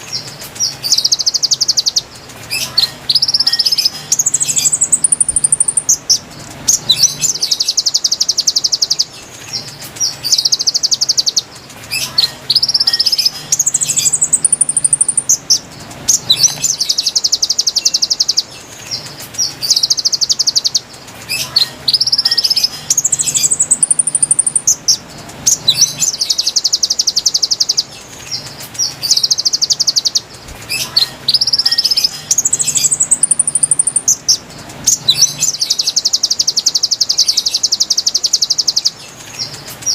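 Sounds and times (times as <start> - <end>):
bird whistling and trilling: 0.0 - 39.9.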